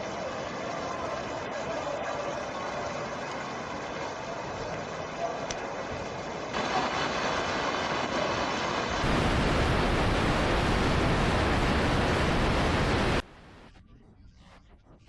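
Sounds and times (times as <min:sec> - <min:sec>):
water rushing: 0:00.0 - 0:13.7.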